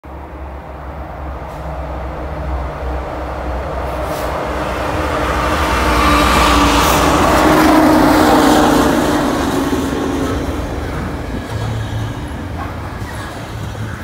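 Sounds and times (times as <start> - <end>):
diesel locomotive engine drone: 0.0 - 14.0
train wheel and rail noise: 0.0 - 14.0.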